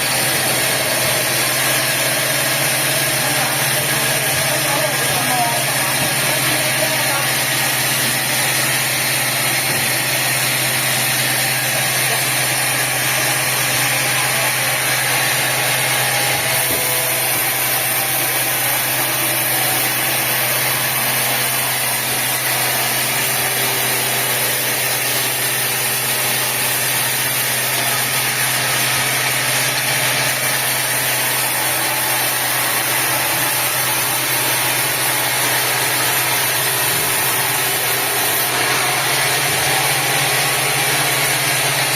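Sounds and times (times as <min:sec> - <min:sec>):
sawmill machinery humming: 0:00.0 - 0:41.9.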